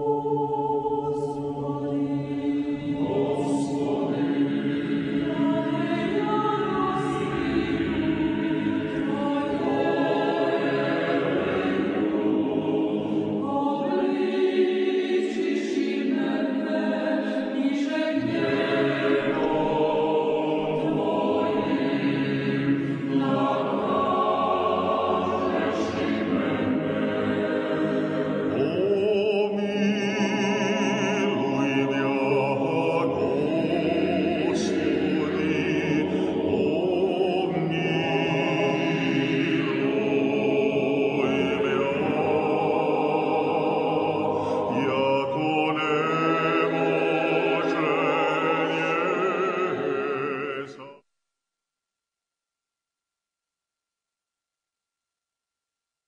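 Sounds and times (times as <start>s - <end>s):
choir singing slow chords: 0.0s - 51.0s.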